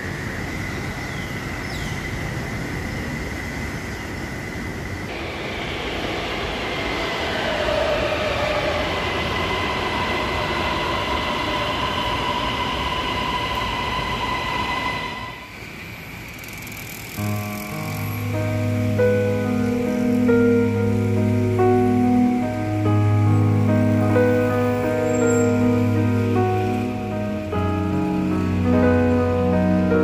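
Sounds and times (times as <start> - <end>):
metro train rumbling: 0.0 - 30.0.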